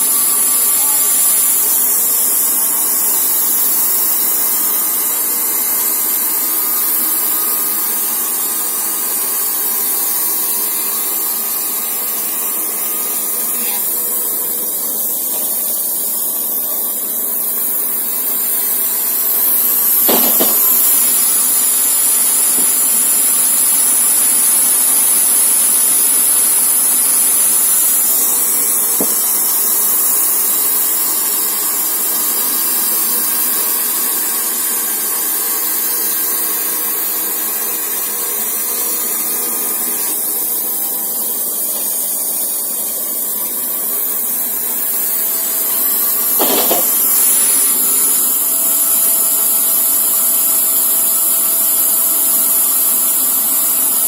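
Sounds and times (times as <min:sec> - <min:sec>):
band sawmill running with whine: 0:00.0 - 0:54.0.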